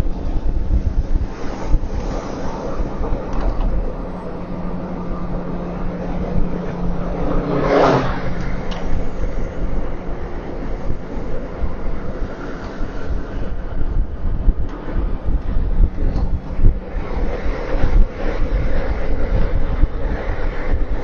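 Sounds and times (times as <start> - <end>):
low hum: 0.0 - 21.0
road and engine rumble in car: 0.0 - 21.0.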